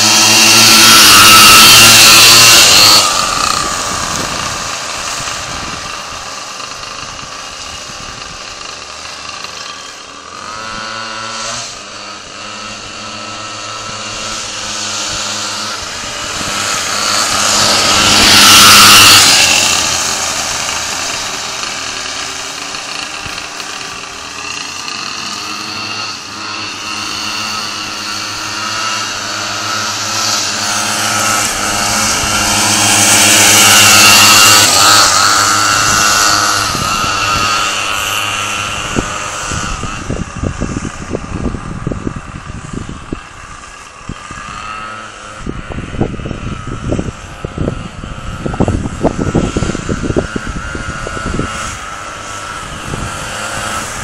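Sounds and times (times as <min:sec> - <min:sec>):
two-stroke engines running: 0:00.0 - 0:54.0.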